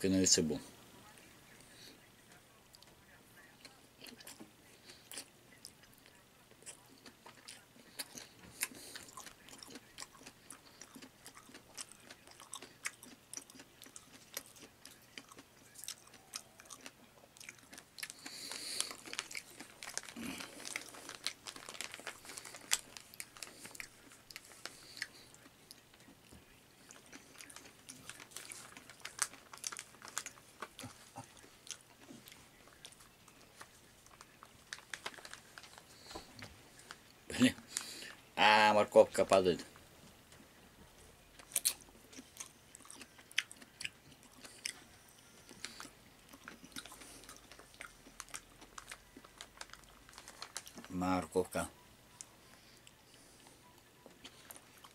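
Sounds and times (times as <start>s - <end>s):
chewing and biting: 3.6s - 26.1s, 26.8s - 37.0s, 41.4s - 50.9s, 52.2s - 54.9s.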